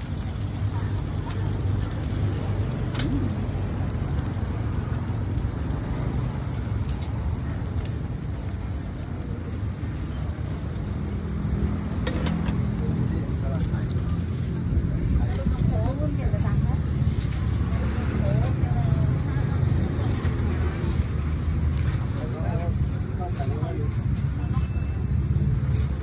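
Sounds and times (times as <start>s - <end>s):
batter sizzling in a hot pan: 0.0s - 26.0s
road traffic rumble: 0.0s - 26.0s.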